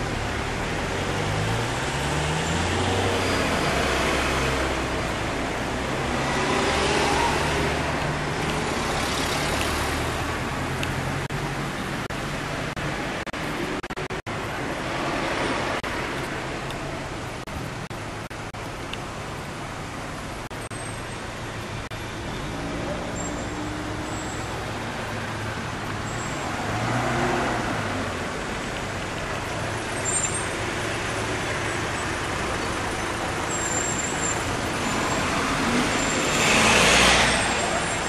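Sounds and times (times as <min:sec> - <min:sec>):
cars passing on road: 0:00.0 - 0:38.0.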